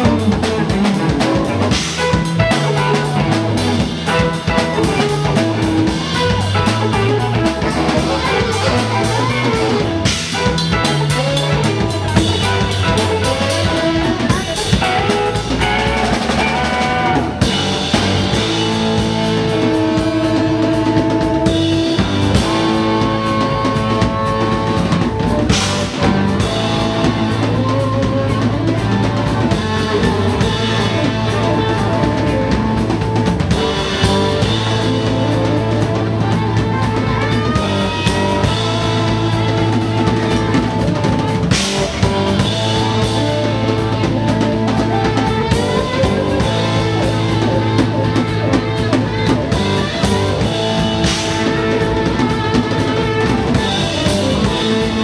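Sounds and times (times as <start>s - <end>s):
bass line: 0.0s - 55.0s
drum kit: 0.0s - 55.0s
electric guitar: 0.0s - 55.0s
saxophone: 0.0s - 55.0s.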